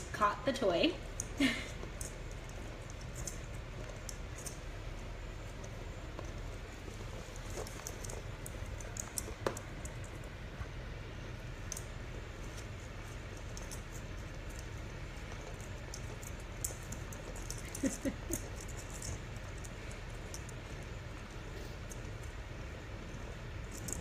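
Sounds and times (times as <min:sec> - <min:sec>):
steady low hum: 0:00.0 - 0:24.0
puppy chewing plastic ball: 0:01.1 - 0:24.0.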